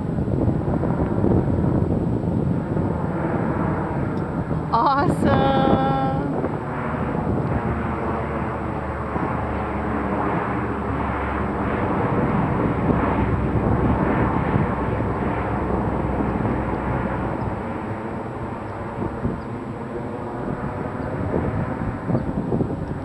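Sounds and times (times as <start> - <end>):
airplane flying overhead: 0.0 - 23.0.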